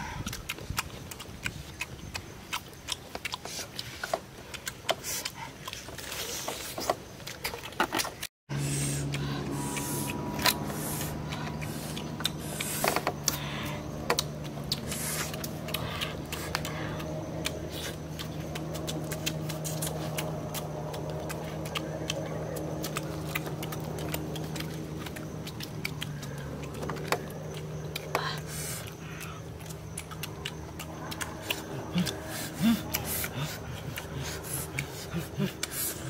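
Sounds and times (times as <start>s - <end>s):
chewing and lip-smacking: 0.0s - 36.0s
steady low hum: 0.0s - 36.0s.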